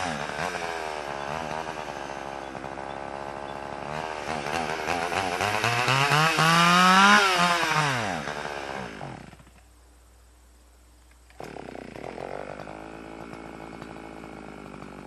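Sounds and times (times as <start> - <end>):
chainsaw engine running unevenly: 0.0 - 9.6, 11.4 - 15.0.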